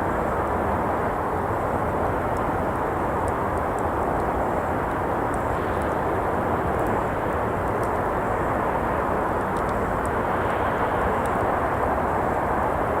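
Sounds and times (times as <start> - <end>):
faint campfire crackles: 0.0 - 13.0.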